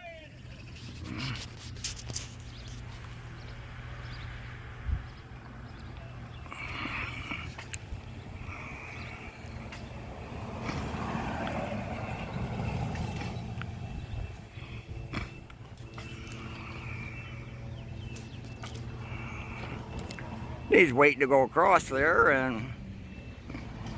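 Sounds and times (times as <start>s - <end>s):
passing traffic: 0.0s - 23.9s
vehicle engine idling: 0.0s - 23.9s.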